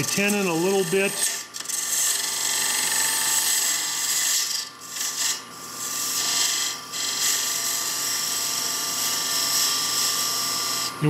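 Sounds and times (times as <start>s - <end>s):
lathe tool scraping spinning wood: 0.0s - 11.0s.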